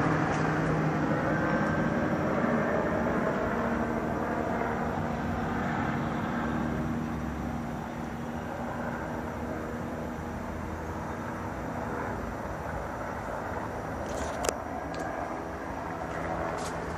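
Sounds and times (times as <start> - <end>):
helicopter rotor drone: 0.0 - 16.9.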